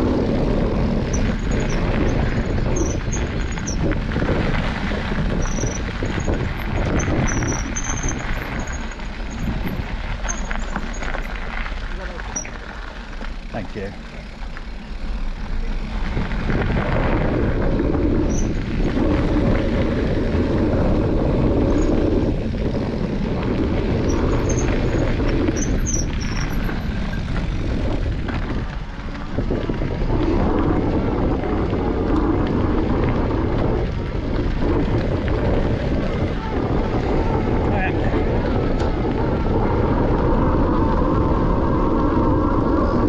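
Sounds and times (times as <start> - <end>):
wind on microphone: 0.0 - 12.7, 14.9 - 43.0
bike tyres crunching on gravel: 0.0 - 43.0.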